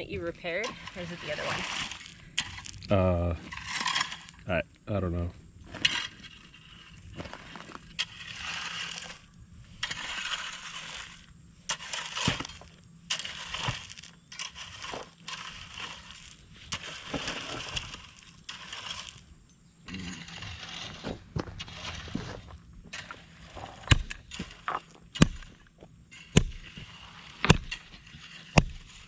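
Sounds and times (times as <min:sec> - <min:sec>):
hand tool scraping gravel: 0:00.0 - 0:29.0.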